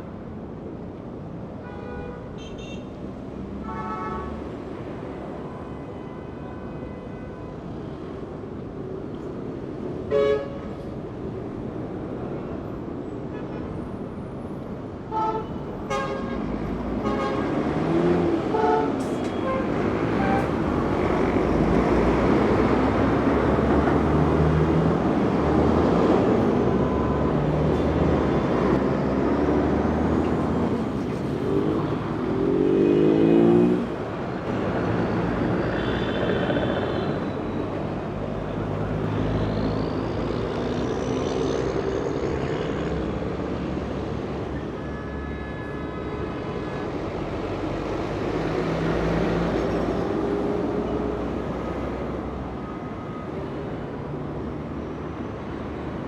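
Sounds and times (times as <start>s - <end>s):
street traffic: 0.0s - 56.0s.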